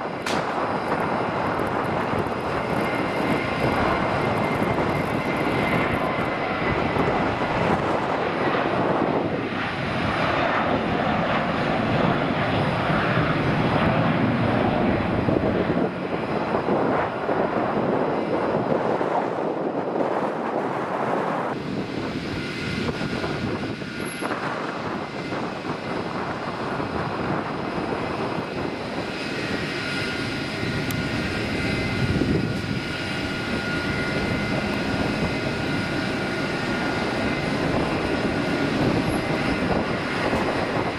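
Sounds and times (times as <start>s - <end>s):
jet engines roaring: 0.0s - 40.9s.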